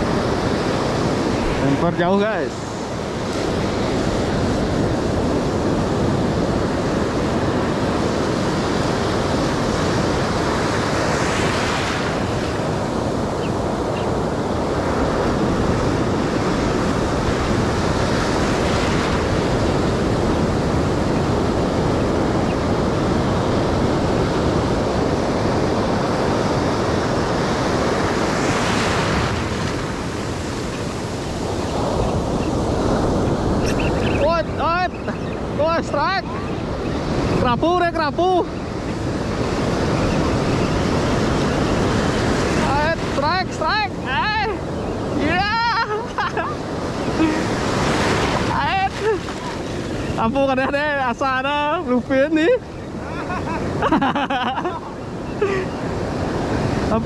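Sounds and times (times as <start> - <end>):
ocean surf breaking: 0.0 - 57.0
wind on microphone: 0.0 - 57.0.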